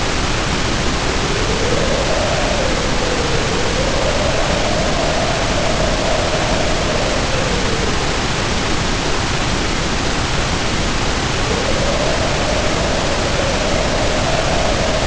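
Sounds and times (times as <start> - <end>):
heavy rain: 0.0 - 15.0
whistling wind howl: 0.0 - 15.0.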